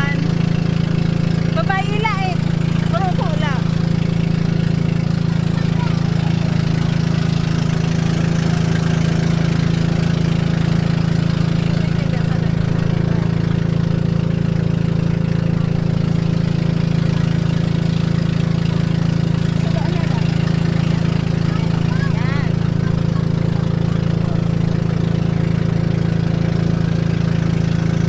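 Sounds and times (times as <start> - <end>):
motorboat engine droning: 0.0 - 28.0.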